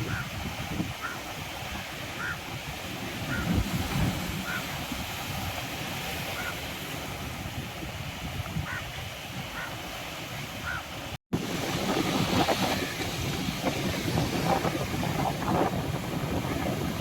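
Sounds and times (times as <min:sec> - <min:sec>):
waves washing on a beach: 0:00.0 - 0:17.0
wind gusting on microphone: 0:00.0 - 0:17.0.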